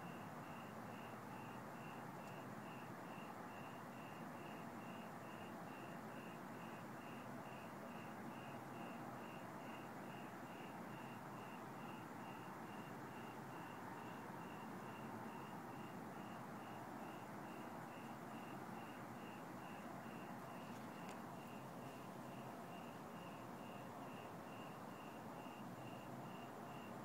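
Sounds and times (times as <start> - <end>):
faint background hiss: 0.0 - 27.0
cricket chirping: 0.1 - 27.0.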